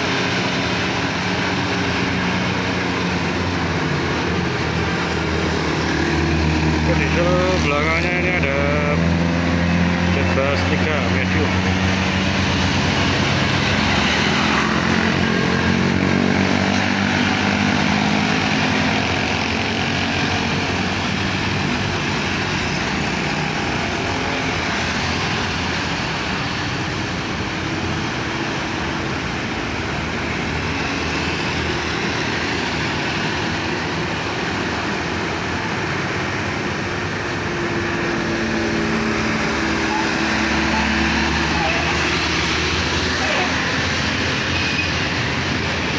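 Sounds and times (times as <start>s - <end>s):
bus engine droning: 0.0s - 45.9s
road and traffic noise: 0.0s - 45.9s.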